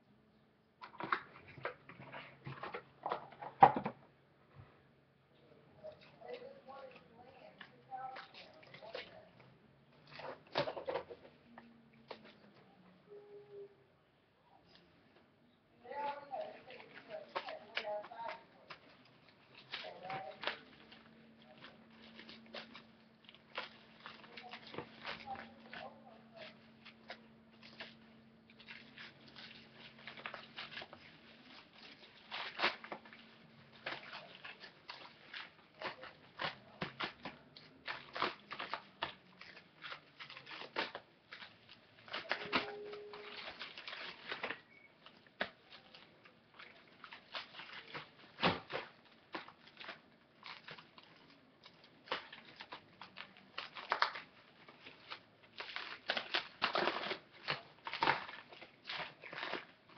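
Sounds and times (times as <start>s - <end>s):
plastic cling wrap crinkling: 5.8s - 13.7s, 15.8s - 59.9s.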